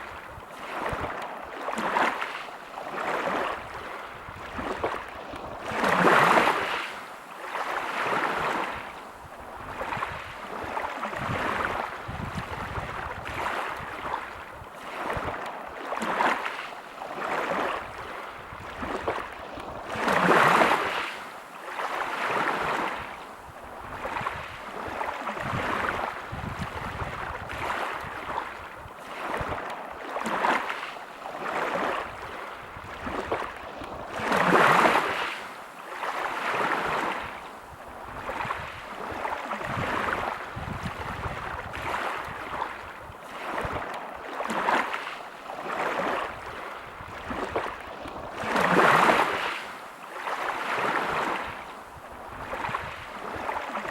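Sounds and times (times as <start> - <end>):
waves breaking on pebble beach: 0.0 - 8.9, 9.7 - 23.2, 23.9 - 37.4, 38.1 - 53.9.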